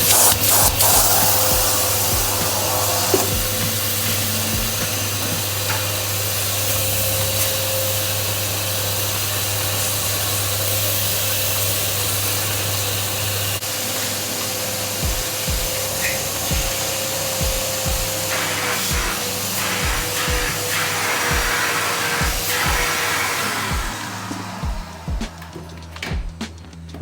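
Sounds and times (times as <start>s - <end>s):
vacuum cleaner motor whining: 0.0s - 26.4s.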